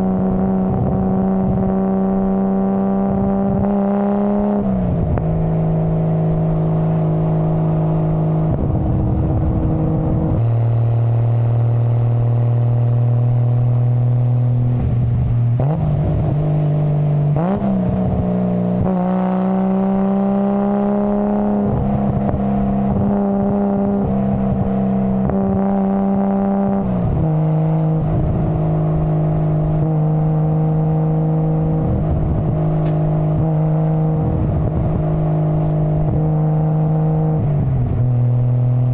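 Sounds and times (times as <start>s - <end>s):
car engine and exhaust running: 0.0s - 38.9s.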